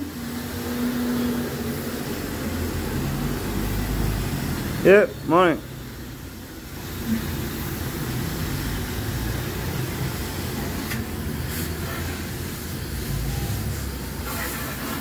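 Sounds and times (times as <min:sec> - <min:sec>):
hose spraying water: 0:00.0 - 0:15.0.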